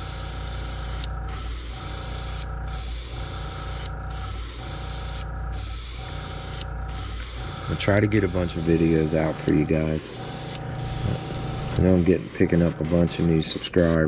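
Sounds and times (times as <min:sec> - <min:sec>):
airbrush spraying hiss: 0:00.0 - 0:14.0
steady low hum: 0:00.0 - 0:14.0.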